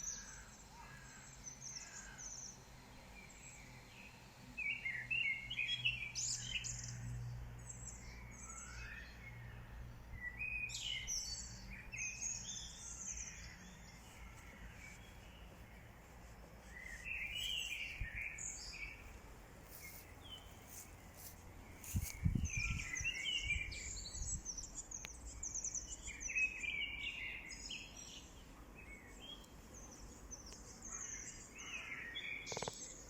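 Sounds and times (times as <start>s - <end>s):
low steady background hum: 0.0s - 33.0s
songbirds chirping and singing: 0.0s - 33.0s.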